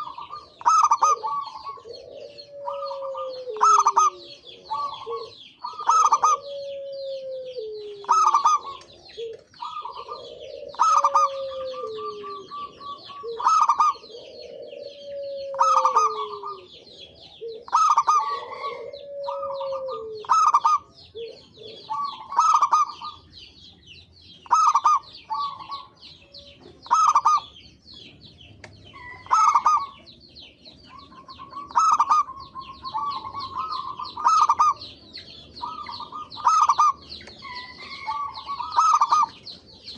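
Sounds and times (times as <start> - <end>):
doves cooing: 0.0 - 39.9
high bird chirping: 0.0 - 39.9.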